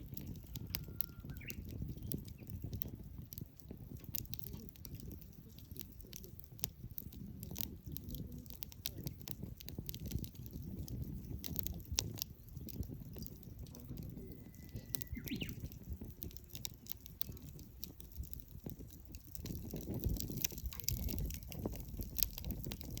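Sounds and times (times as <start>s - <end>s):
campfire crackles and pops: 0.0s - 23.0s.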